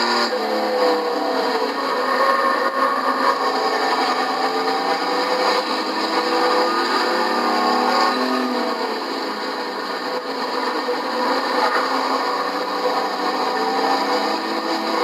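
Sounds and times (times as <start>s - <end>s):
race truck engines passing: 0.0s - 15.0s.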